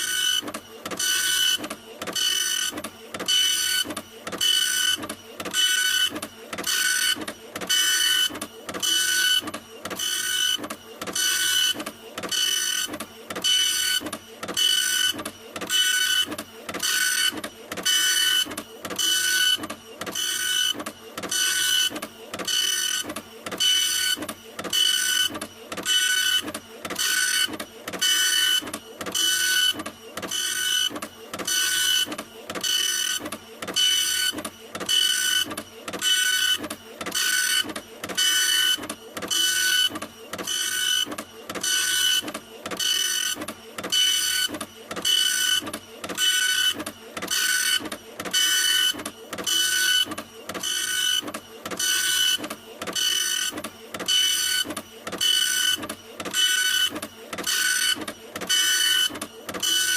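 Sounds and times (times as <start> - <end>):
printer whirring with high whine: 0.0 - 59.9.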